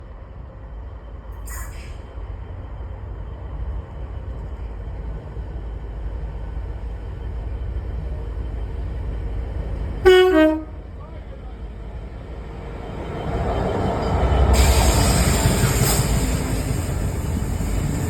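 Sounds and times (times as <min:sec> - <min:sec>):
diesel freight train rumbling: 0:00.0 - 0:18.0.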